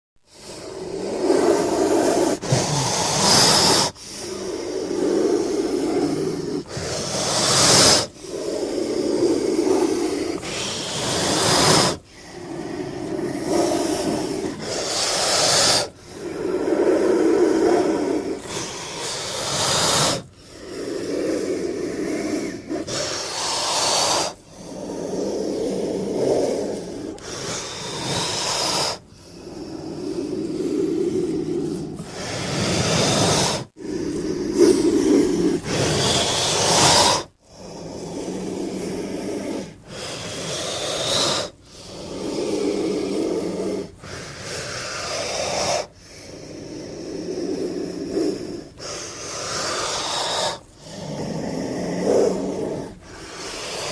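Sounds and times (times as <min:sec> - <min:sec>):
snake creature rasping hiss: 0:00.2 - 0:53.9.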